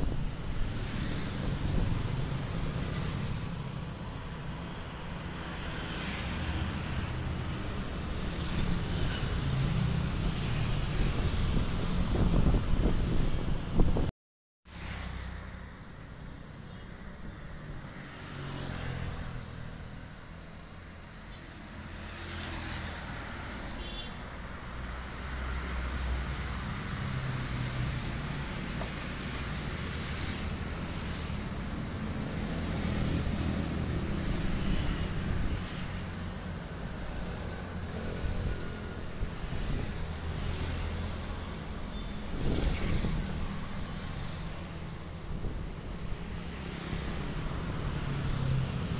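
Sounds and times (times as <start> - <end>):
road traffic rumble: 0.0 - 14.1, 14.7 - 48.9.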